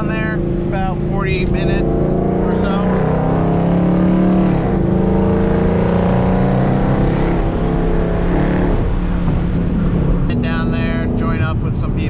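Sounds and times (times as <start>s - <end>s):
car engine exhaust: 0.0s - 12.0s.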